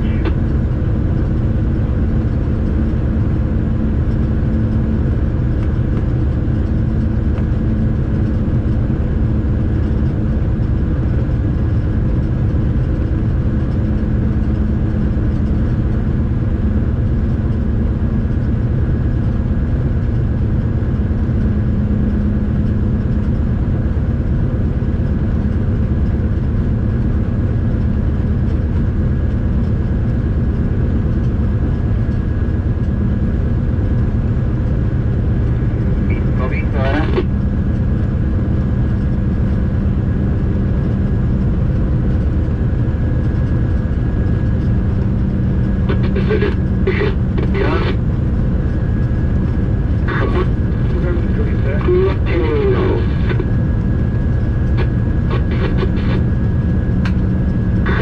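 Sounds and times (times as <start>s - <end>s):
locomotive engine drone: 0.0s - 58.0s.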